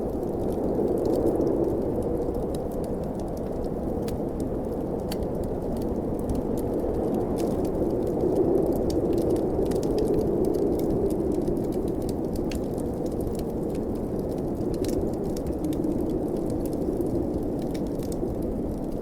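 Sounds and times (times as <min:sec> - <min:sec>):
blizzard wind blowing: 0:00.0 - 0:19.0
wood fire crackling: 0:00.0 - 0:19.0.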